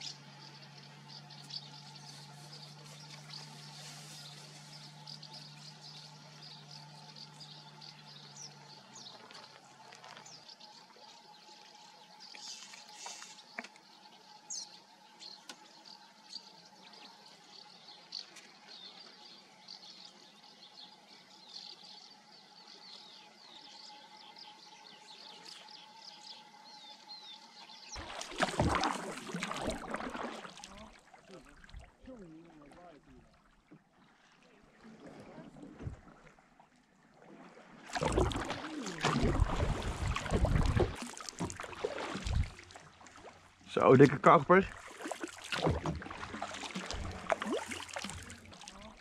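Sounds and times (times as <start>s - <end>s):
birds chirping: 0.0s - 33.3s, 38.0s - 49.0s.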